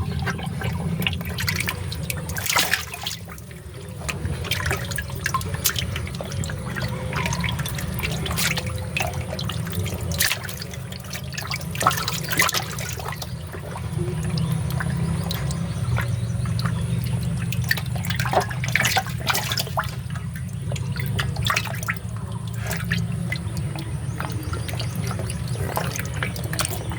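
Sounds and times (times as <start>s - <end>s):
water drips and splashes: 0.0s - 26.9s.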